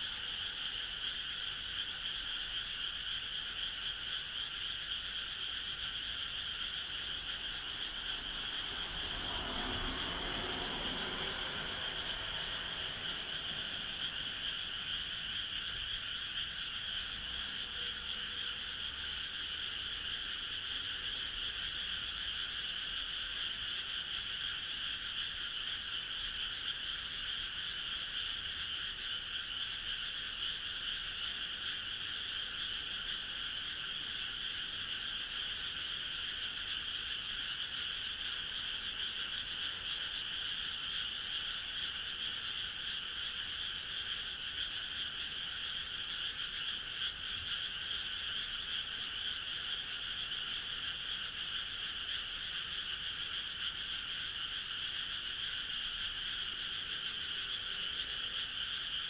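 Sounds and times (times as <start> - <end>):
frog chorus: 0.0 - 59.0.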